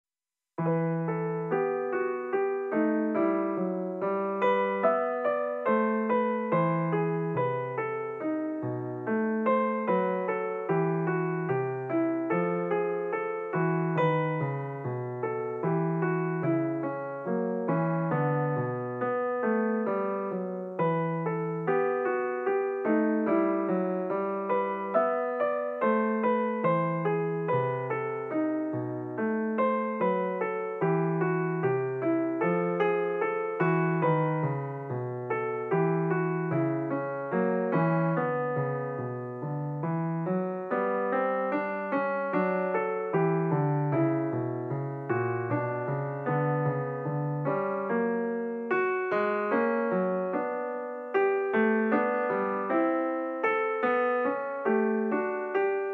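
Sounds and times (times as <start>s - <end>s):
piano music: 0.6s - 55.9s.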